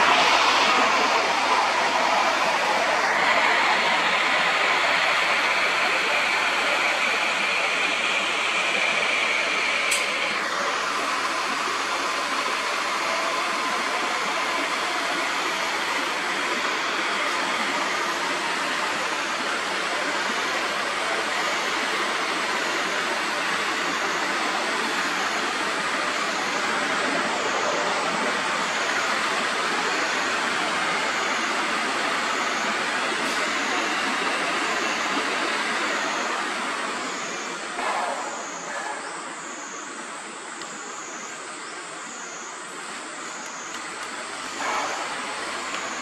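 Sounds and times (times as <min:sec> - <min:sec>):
outdoor hiss: 0:00.0 - 0:46.0.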